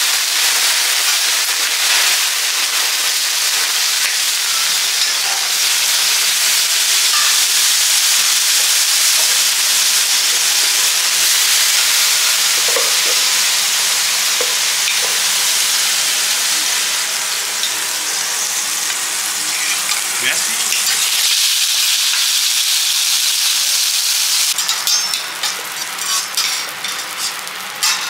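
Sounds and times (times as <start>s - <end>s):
sizzling hiss from hot griddle: 0.0s - 28.0s.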